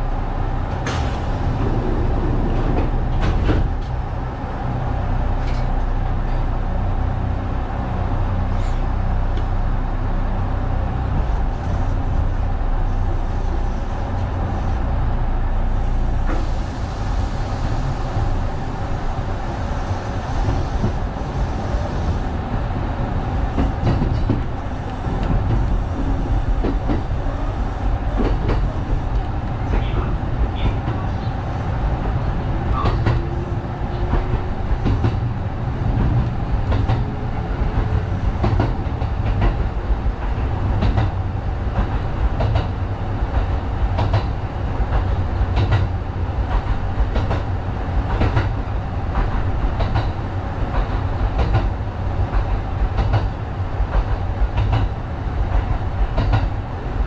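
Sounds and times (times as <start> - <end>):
train running low rumble: 0.0 - 57.0.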